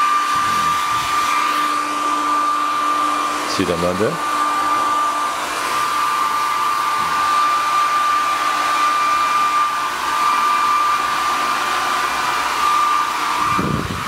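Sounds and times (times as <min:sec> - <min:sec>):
electric blower whining: 0:00.0 - 0:14.0.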